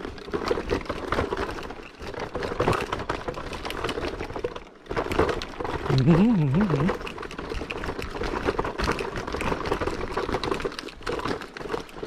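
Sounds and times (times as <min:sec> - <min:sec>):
kick scooter rattling over stones: 0:00.0 - 0:12.0.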